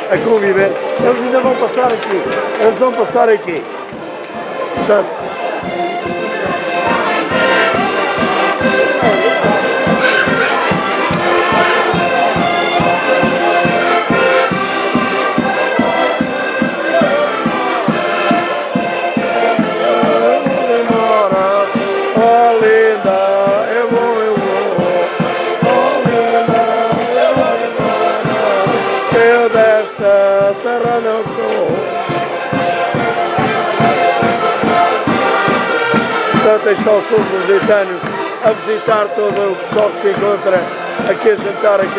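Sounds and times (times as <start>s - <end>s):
accordions playing folk tune: 0.0s - 41.9s
bass drum beat: 4.0s - 38.9s.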